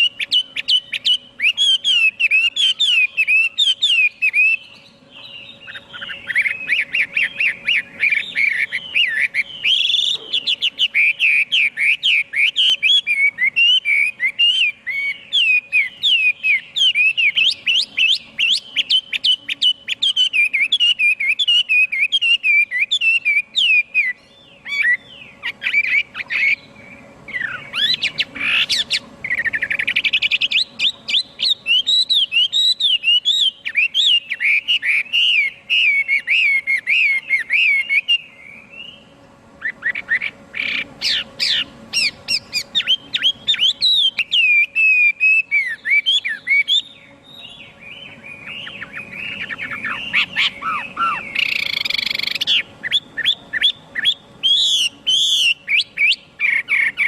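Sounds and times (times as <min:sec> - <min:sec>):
bird singing whistled notes: 0:00.0 - 0:57.0.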